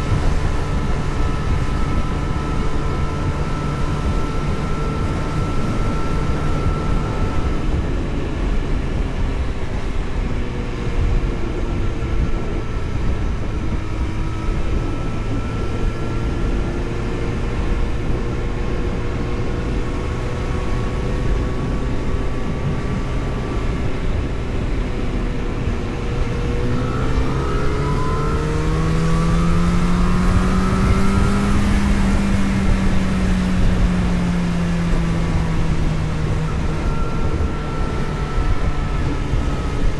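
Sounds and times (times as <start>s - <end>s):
road and wind noise: 0.0s - 39.9s
vehicle engine accelerating: 0.0s - 39.9s.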